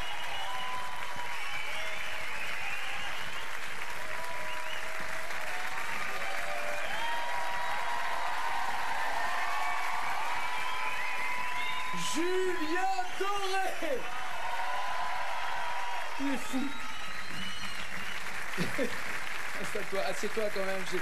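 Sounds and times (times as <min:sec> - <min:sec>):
audience applauding: 0:00.0 - 0:21.0
audience cheering: 0:00.0 - 0:21.0.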